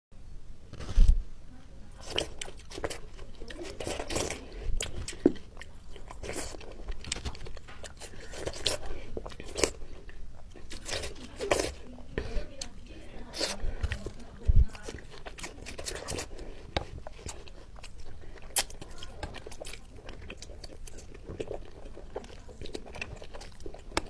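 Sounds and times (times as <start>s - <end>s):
person chewing crunchy food: 1.9s - 24.0s.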